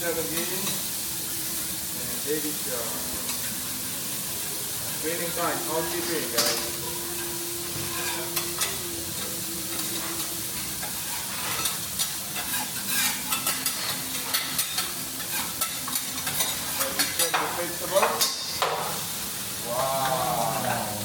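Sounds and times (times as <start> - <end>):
prawns sizzling on griddle: 0.0 - 21.0.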